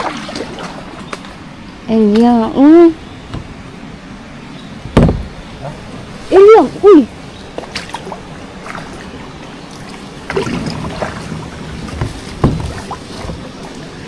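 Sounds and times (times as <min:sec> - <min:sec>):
river water splashing: 0:00.0 - 0:14.0.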